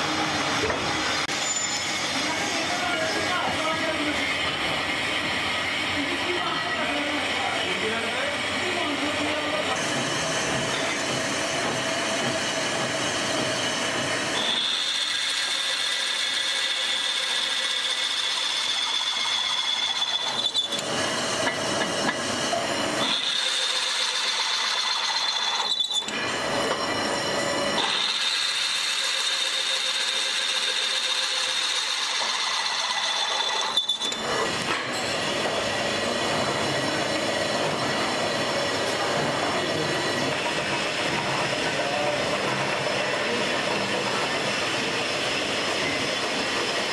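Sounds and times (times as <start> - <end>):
pillar drill boring metal: 0.0 - 46.9
workshop machine noise: 0.0 - 46.9.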